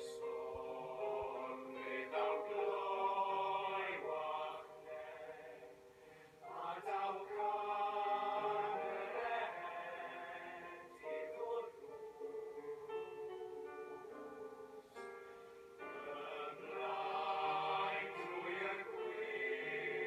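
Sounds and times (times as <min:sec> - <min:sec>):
male-voice choir singing in harmony: 0:00.0 - 0:14.8, 0:15.8 - 0:20.0.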